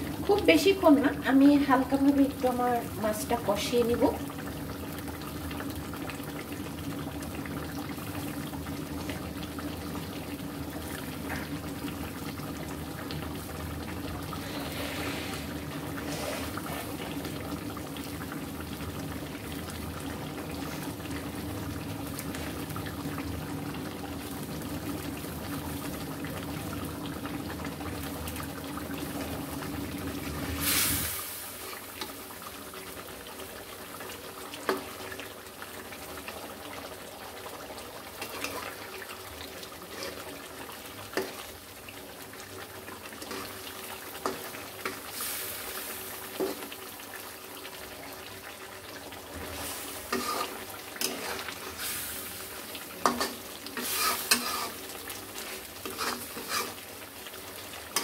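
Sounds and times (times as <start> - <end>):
liquid bubbling and sizzling: 0.0 - 58.0.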